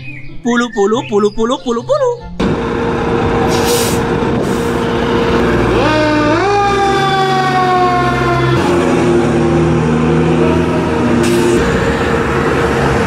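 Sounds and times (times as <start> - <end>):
truck engine: 0.3 - 13.0
fire engine siren: 2.4 - 13.0.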